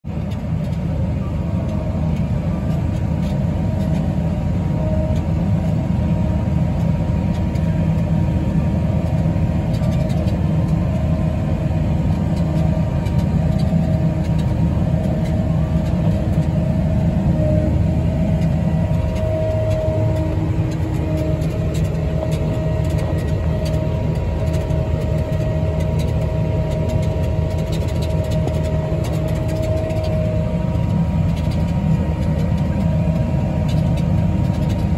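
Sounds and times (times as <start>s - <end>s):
farm machinery low drone: 0.0s - 34.9s
faint wavering whine: 0.2s - 34.9s.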